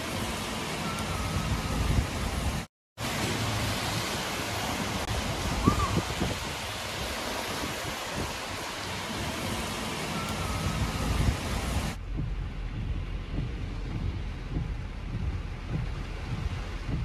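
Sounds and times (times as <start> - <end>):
rain on car windshield: 0.0 - 17.0.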